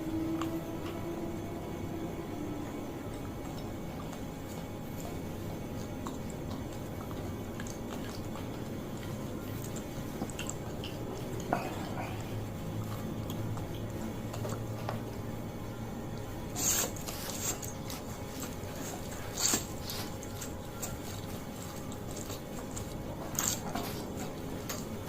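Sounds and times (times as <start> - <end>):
low hum: 0.0 - 25.0
person chewing noodles: 0.0 - 25.0.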